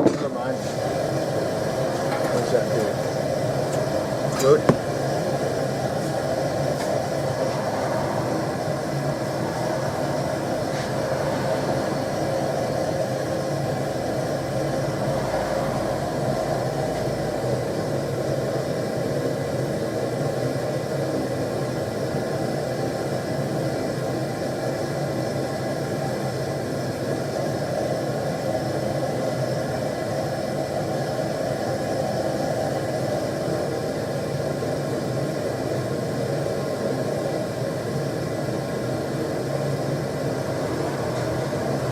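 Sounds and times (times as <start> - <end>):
gas burner flame rushing: 0.0 - 41.9.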